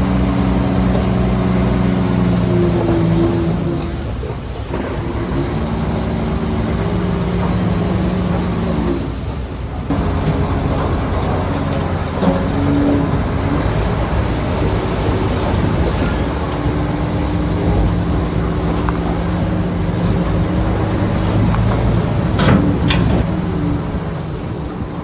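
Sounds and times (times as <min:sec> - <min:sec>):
diesel engine drone: 0:00.0 - 0:25.0
machinery rumbling and clattering: 0:00.0 - 0:25.0.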